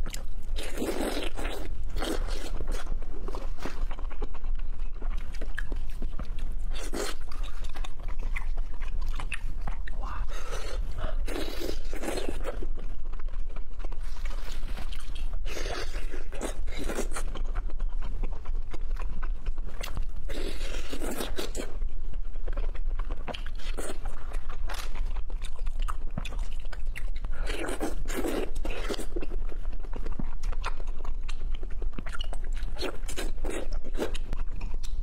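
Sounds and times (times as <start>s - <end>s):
person chewing seafood: 0.0s - 35.0s.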